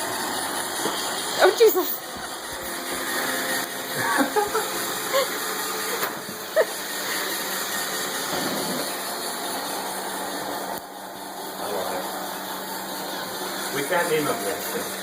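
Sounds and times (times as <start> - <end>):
robot vacuum humming: 0.0 - 15.0.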